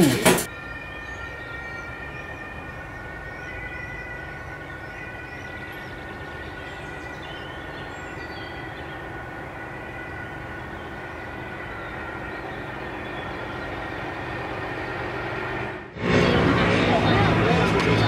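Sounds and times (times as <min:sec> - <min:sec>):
street traffic rumble: 0:00.0 - 0:18.0
constant high-pitched tone: 0:00.4 - 0:18.0.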